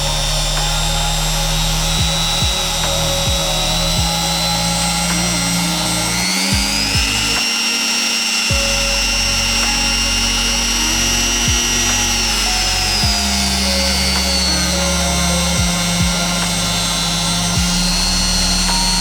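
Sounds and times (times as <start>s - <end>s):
background music: 0.0s - 19.0s
router motor whine: 0.0s - 19.0s.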